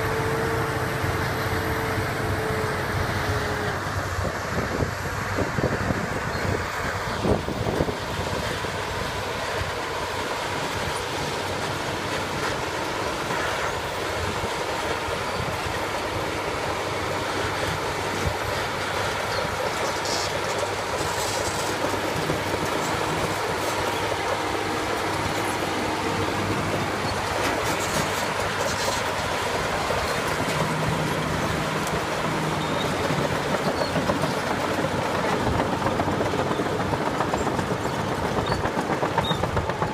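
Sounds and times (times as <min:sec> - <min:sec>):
heavy diesel engines under load: 0:00.0 - 0:39.9.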